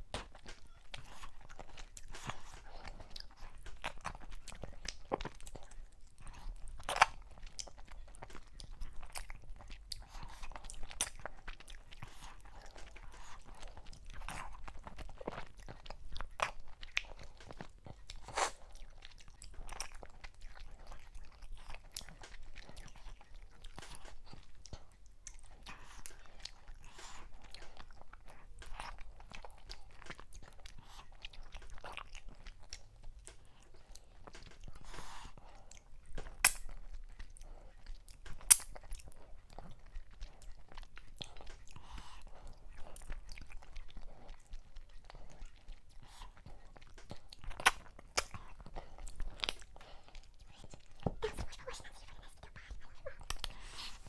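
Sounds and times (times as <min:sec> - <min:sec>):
close chewing food: 0:00.0 - 0:54.0
sharp mouth clicks and crunches: 0:00.1 - 0:54.0.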